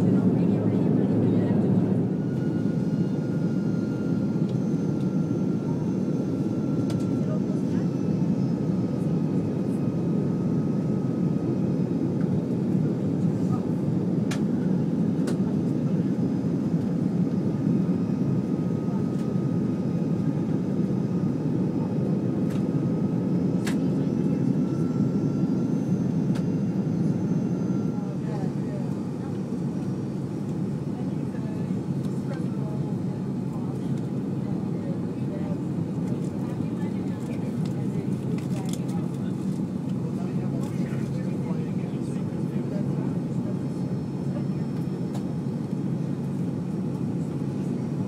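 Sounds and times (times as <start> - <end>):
jet engine roar: 0.0 - 48.0.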